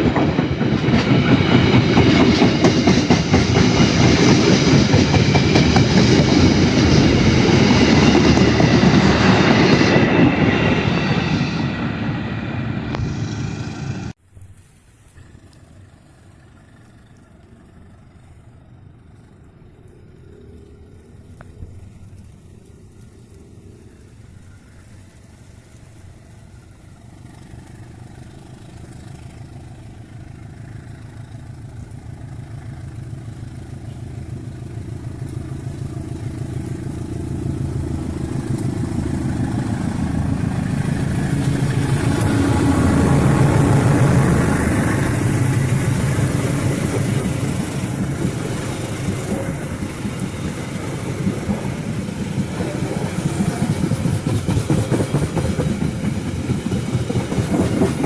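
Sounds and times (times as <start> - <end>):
diesel locomotive engine hum: 0.0 - 58.0
train rushing noise: 0.0 - 58.0.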